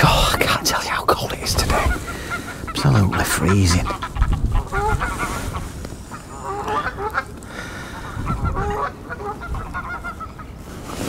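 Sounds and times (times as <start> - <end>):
geese honking: 1.6 - 11.0.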